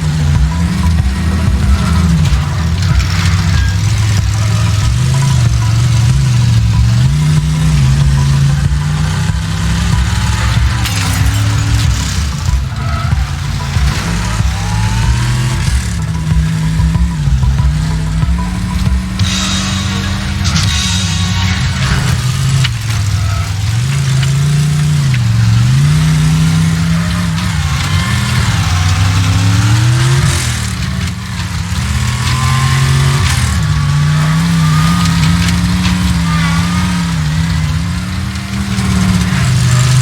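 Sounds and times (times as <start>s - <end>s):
race car engine at high revs: 0.0s - 40.0s.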